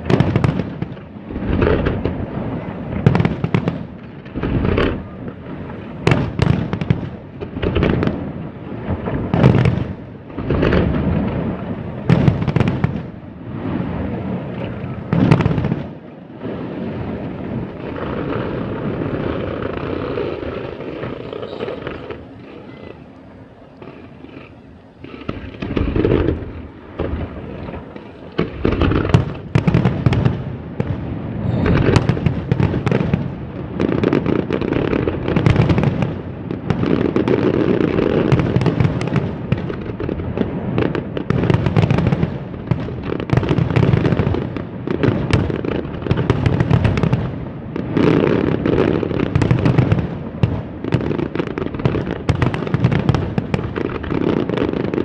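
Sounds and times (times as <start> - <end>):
fireworks booming: 0.0 - 55.0
fireworks crackling bursts: 0.0 - 55.0.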